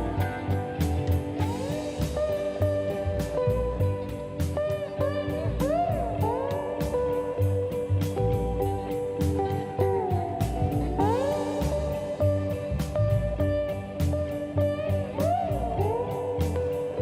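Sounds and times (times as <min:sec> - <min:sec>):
bluesy electric guitar: 0:00.0 - 0:17.0
steady drum beat: 0:00.0 - 0:17.0.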